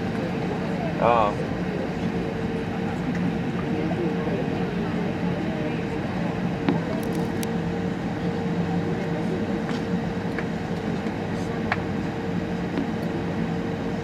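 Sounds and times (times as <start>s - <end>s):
airplane cabin hum: 0.0s - 14.0s.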